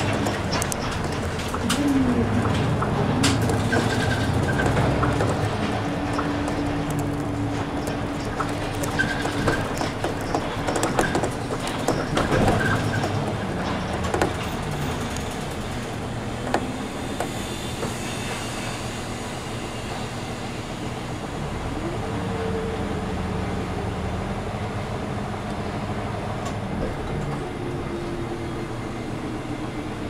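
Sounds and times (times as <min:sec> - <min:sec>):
bus body rattling: 0:00.0 - 0:30.0
bus engine running: 0:00.0 - 0:30.0.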